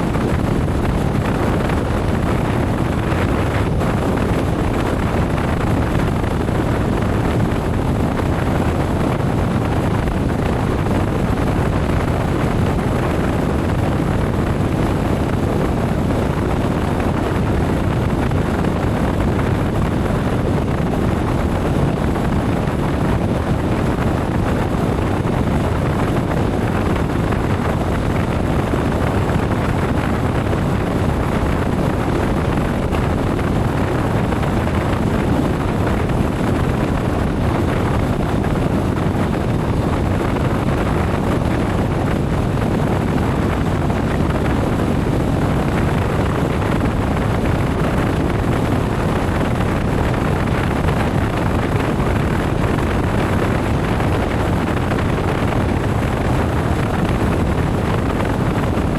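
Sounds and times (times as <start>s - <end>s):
motorcycle engine and road noise: 0.0s - 58.9s
wind rushing on microphone: 0.0s - 58.9s.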